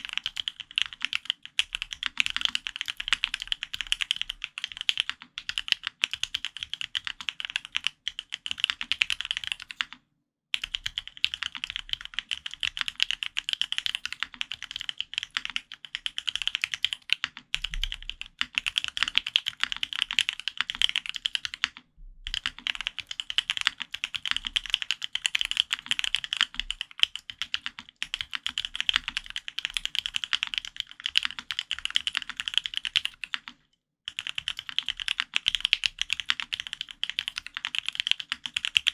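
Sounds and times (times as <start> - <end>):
fast mechanical keyboard typing: 0.0 - 10.0, 10.6 - 38.9.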